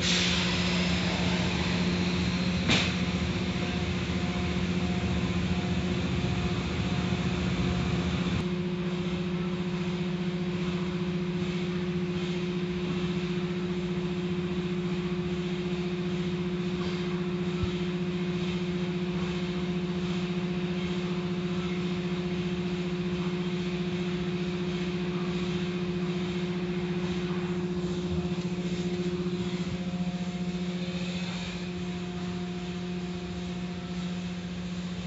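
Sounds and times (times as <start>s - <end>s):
car wash machinery hum: 0.0s - 35.0s.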